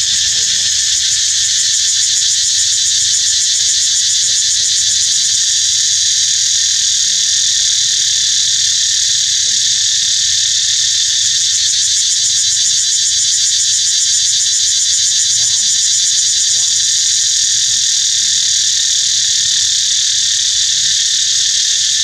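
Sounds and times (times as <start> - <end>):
insects buzzing shrilly: 0.0 - 22.0.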